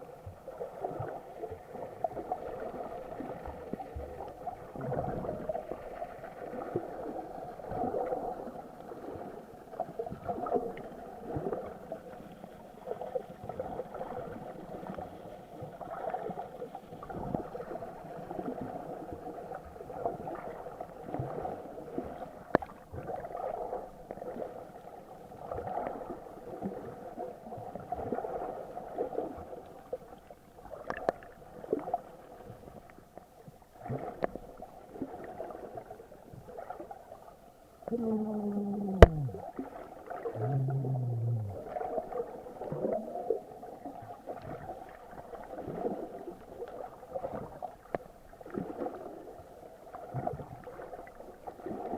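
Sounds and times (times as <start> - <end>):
muffled water sloshing underwater: 0.0 - 51.9.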